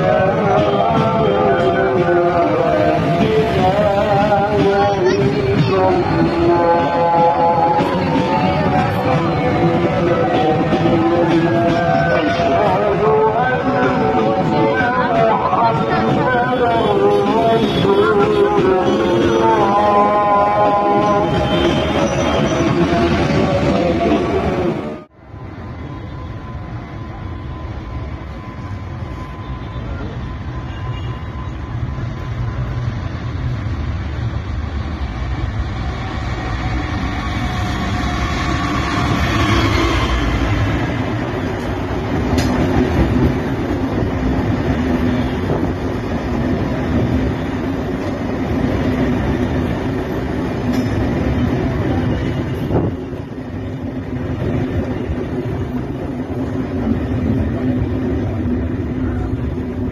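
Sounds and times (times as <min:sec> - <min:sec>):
diesel locomotive passing: 0:00.0 - 0:59.9
train coaches rumbling past: 0:00.0 - 0:59.9.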